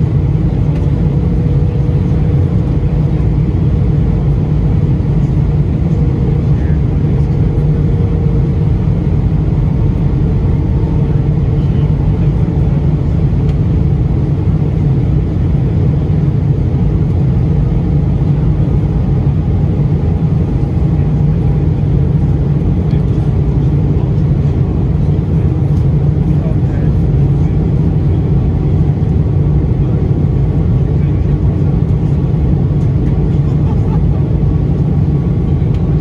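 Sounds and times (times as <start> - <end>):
airliner cabin rumble: 0.0 - 36.0.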